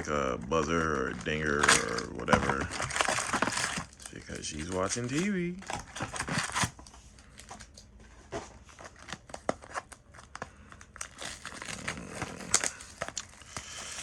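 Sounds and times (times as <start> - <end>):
foil wrappers crinkling: 0.0 - 7.9, 8.6 - 14.0.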